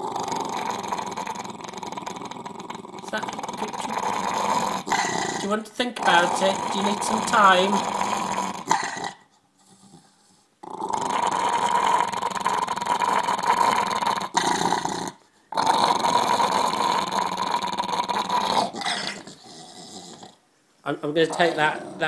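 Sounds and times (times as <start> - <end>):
dog growling: 0.0 - 20.4, 21.2 - 22.0.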